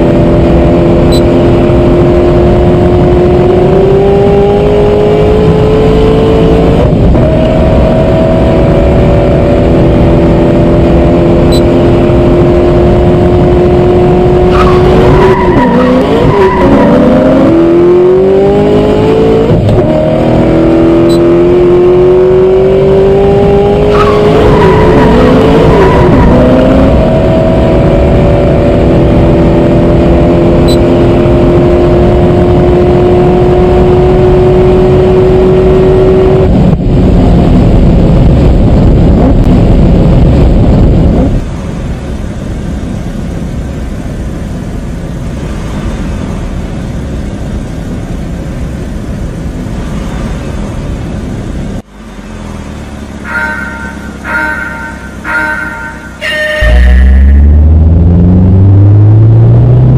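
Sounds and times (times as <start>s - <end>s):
race car engine at high revs: 0.0s - 43.7s, 44.6s - 59.9s.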